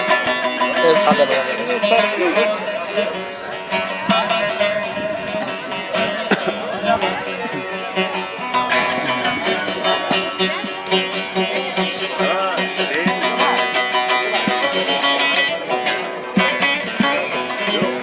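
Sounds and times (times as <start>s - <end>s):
folk music on plucked strings: 0.0s - 18.0s.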